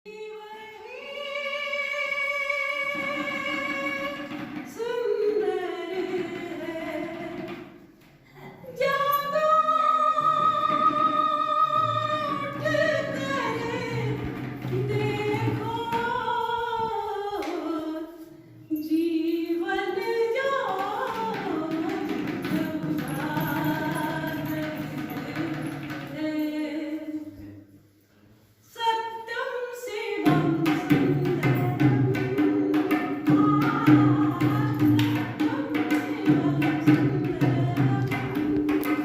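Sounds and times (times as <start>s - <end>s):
woman singing: 0.1s - 7.7s, 8.3s - 27.5s, 28.7s - 39.0s.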